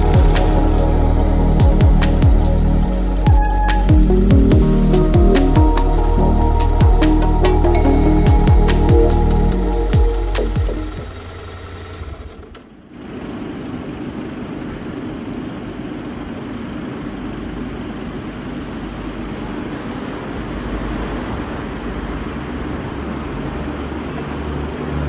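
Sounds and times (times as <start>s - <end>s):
motorcycle engine and road noise: 0.0s - 25.0s.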